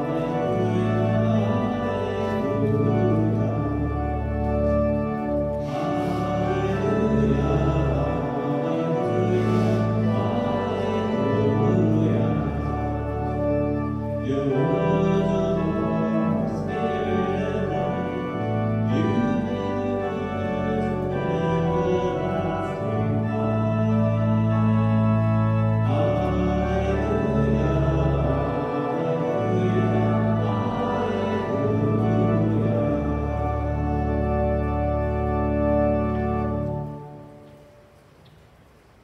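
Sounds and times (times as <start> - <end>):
church organ playing chords: 0.0 - 38.2.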